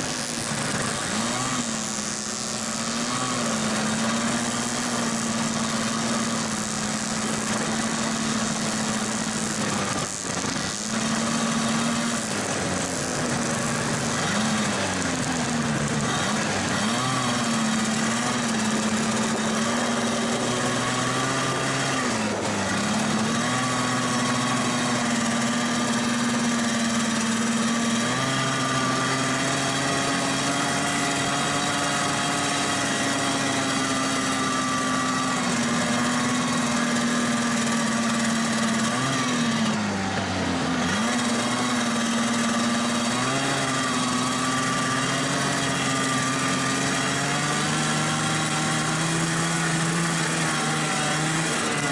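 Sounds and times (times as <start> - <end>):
snowmobile engine running: 0.0 - 51.9.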